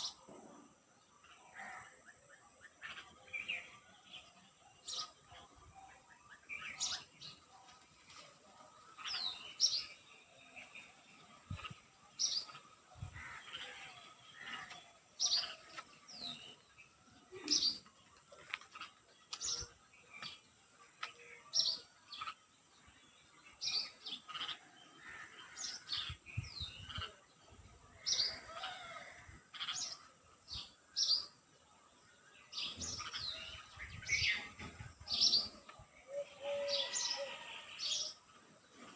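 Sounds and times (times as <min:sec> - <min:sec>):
birds warbling: 0:00.0 - 0:31.6, 0:32.4 - 0:38.9
songbirds chirping: 0:00.0 - 0:38.9.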